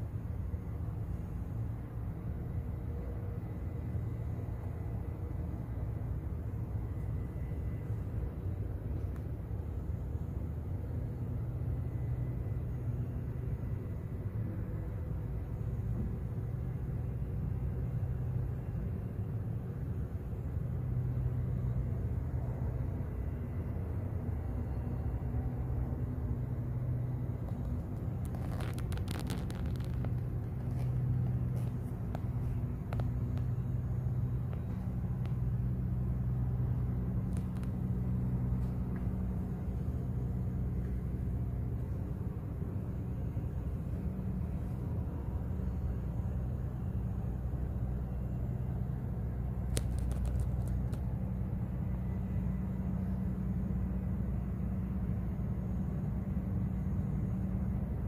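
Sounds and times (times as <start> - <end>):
low city rumble with hum: 0.0 - 58.0.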